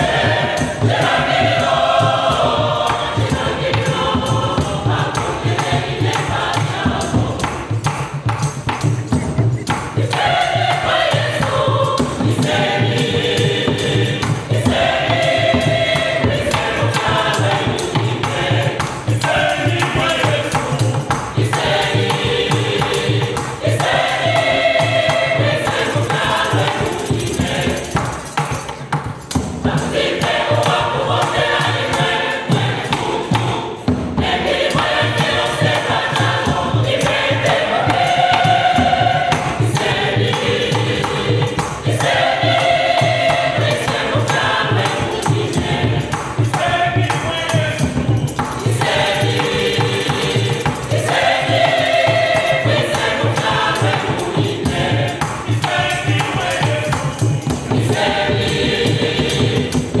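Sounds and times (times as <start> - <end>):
choir singing gospel song: 0.0 - 60.0
hand drums beat: 0.0 - 60.0
shaken hand percussion: 0.0 - 60.0.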